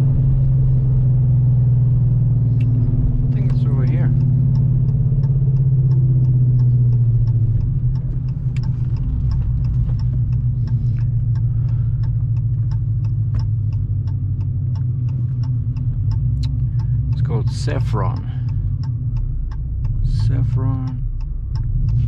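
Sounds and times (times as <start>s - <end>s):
car engine rumbling: 0.0s - 22.0s
light ticking clicks: 2.2s - 22.0s.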